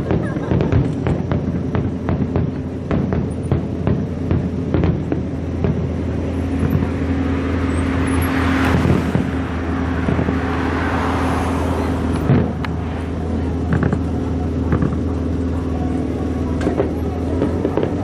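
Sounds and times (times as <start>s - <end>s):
distant fireworks bangs: 0.0s - 18.0s
road vehicle passing: 0.0s - 18.0s.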